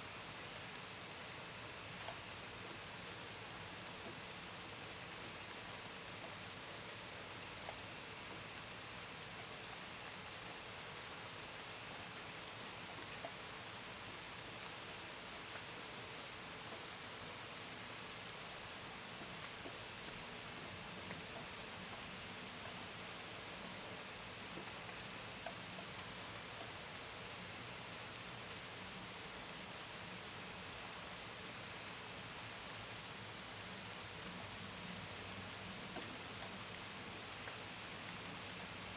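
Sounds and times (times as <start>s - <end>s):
gentle rain: 0.0s - 38.9s
crickets chirping: 0.1s - 38.9s.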